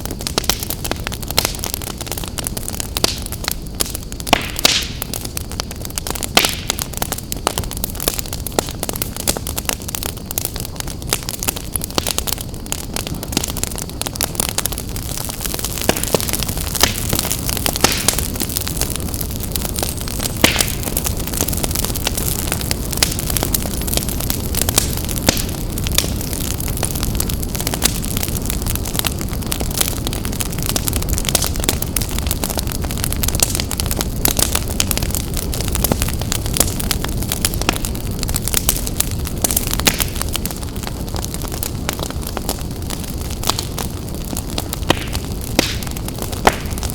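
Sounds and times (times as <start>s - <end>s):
fire flames rumbling and hissing: 0.0s - 46.9s
logs crackling and popping: 0.0s - 46.9s.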